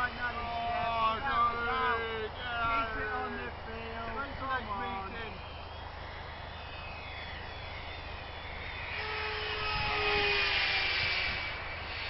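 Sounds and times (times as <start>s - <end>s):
model aircraft motor whine: 0.0s - 12.0s.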